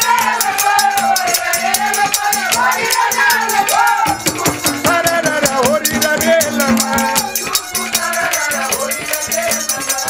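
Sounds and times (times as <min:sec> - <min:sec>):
fast rattling percussion: 0:00.0 - 0:10.0.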